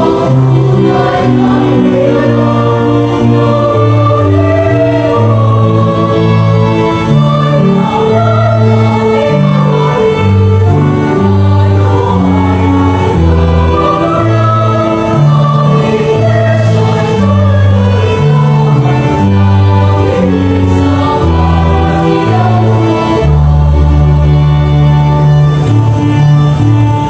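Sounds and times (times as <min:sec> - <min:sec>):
mixed choir singing gospel: 0:00.0 - 0:27.0
slow bass line: 0:00.0 - 0:27.0.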